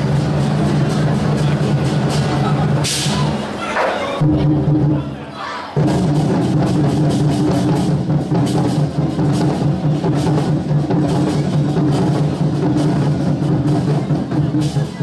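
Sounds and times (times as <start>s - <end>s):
barrel drums beaten with sticks: 0.0s - 5.1s, 5.8s - 15.0s.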